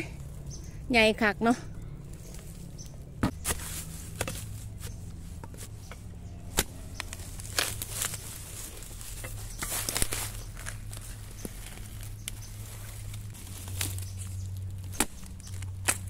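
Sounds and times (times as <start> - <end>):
dry leaf litter rustling: 2.1 - 16.0.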